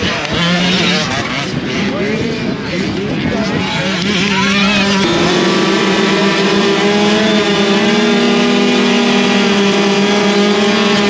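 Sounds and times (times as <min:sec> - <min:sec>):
dirt bike engine buzzing: 0:00.0 - 0:11.0.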